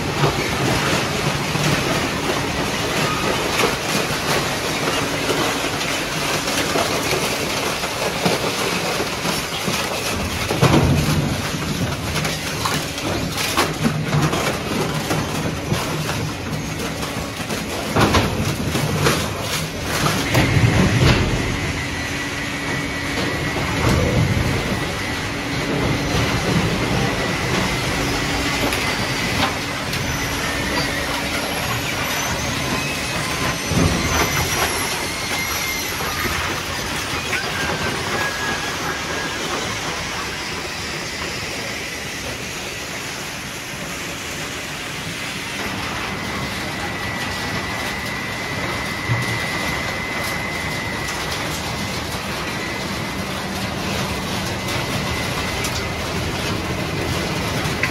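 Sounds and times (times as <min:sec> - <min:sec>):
conveyor rattling and clanking: 0:00.0 - 0:57.9.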